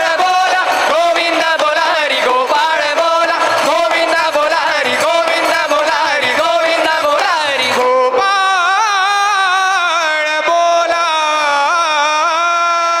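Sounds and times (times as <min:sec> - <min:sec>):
man singing long melodic line: 0:00.0 - 0:13.0.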